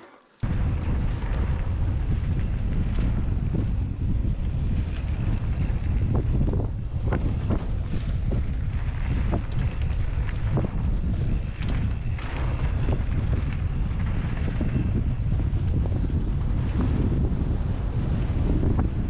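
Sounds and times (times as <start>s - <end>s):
bike riding over dirt trail: 0.1s - 19.0s
wind buffeting microphone: 0.4s - 19.0s
bike clicks and rattles: 0.5s - 19.0s.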